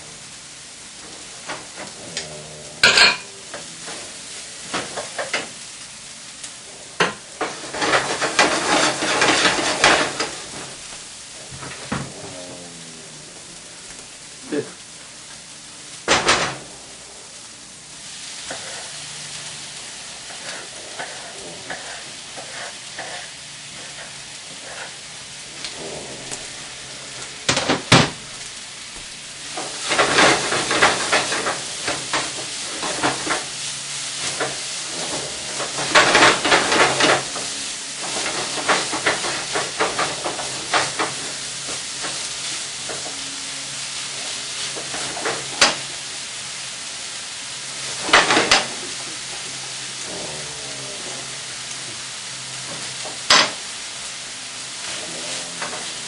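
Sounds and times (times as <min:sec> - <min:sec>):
food sizzling in a skillet: 0:00.0 - 0:56.0.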